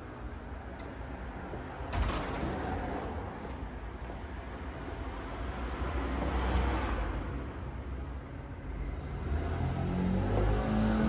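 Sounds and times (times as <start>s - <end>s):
street traffic rush: 0.0s - 11.0s.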